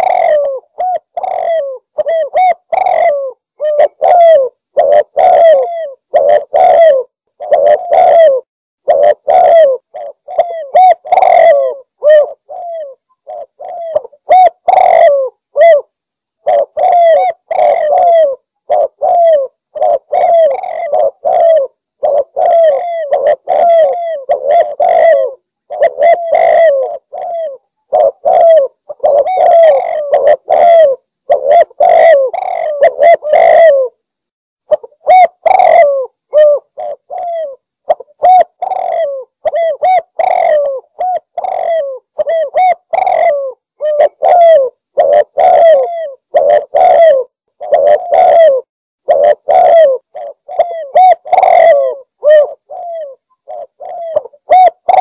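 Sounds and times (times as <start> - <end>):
dove cooing: 0.0 - 34.0, 34.7 - 55.0.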